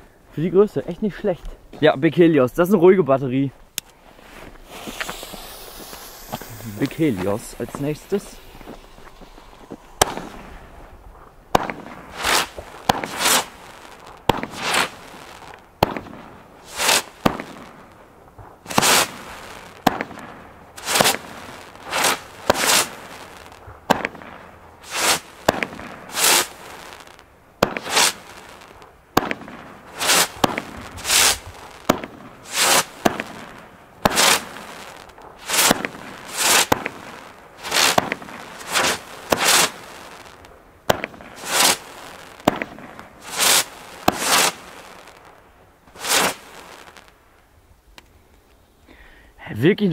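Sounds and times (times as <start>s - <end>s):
fireworks shells bursting: 3.8s - 17.7s, 18.6s - 47.1s
fireworks battery firing: 3.8s - 18.0s, 18.6s - 47.2s.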